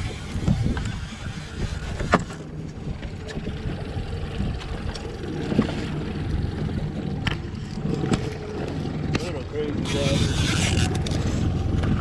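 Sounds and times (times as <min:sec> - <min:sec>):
wind on microphone: 0:00.0 - 0:08.6, 0:09.6 - 0:12.0
outboard motor droning: 0:00.0 - 0:12.0
water against hull: 0:00.0 - 0:12.0.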